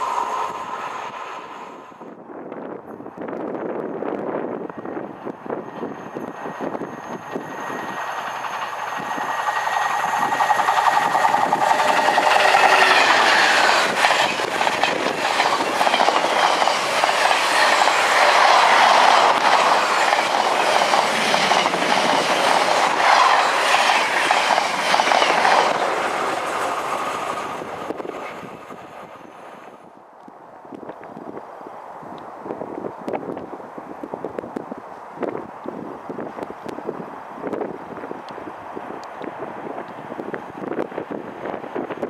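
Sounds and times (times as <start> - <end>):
diesel locomotive passing: 0.0 - 30.0, 36.1 - 42.0
train wheels clickety-clack on rail joints: 2.4 - 29.9, 32.5 - 42.0.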